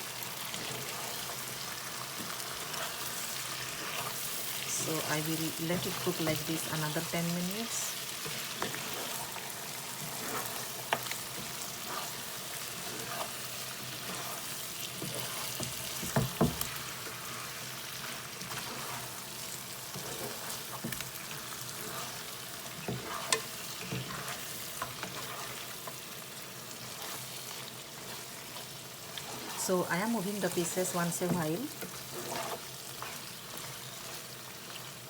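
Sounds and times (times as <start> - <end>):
meat sizzling in a pot: 0.0 - 35.0
utensil scraping a pot: 0.6 - 26.0, 26.8 - 34.3.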